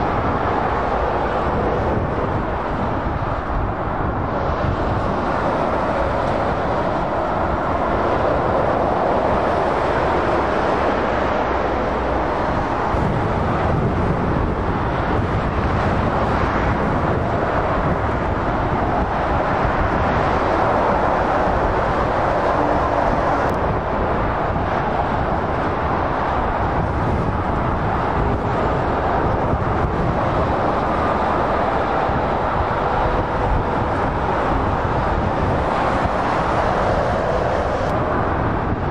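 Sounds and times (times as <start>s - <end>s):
motorway traffic noise: 0.0s - 38.9s.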